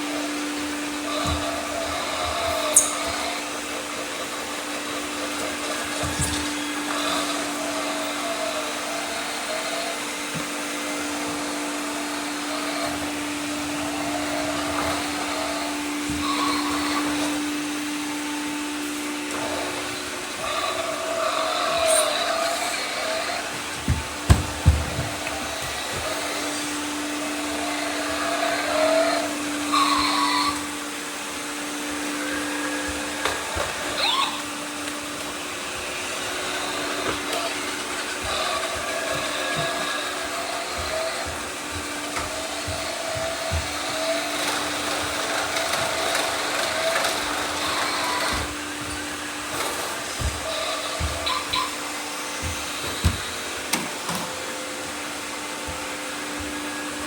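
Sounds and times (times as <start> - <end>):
robot vacuums whirring: 0.0 - 57.0.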